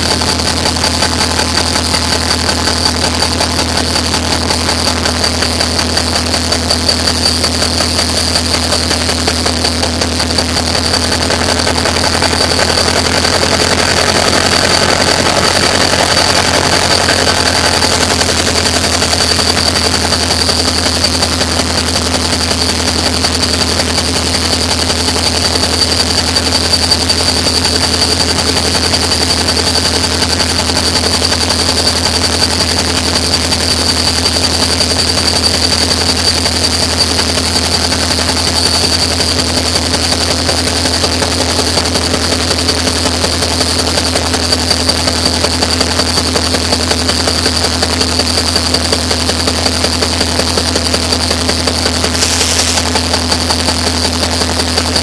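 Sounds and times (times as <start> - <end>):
diesel locomotive idling: 0.0 - 55.0
high-pitched whine: 0.0 - 55.0.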